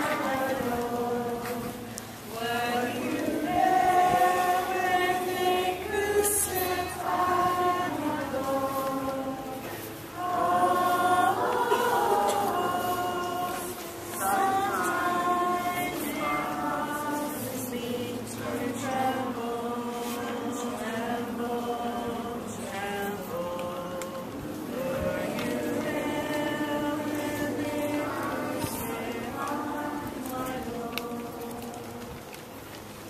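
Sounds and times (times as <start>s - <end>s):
children singing a hymn: 0.0s - 32.4s.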